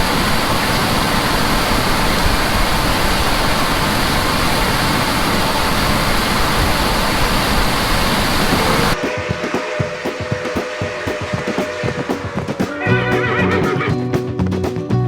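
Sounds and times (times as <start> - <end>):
harvest machinery rushing noise: 0.0 - 14.0.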